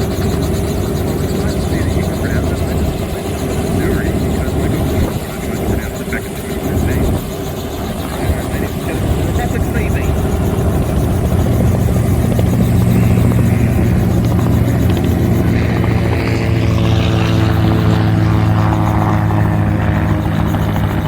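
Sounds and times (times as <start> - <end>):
aircraft engine droning: 0.0 - 21.0.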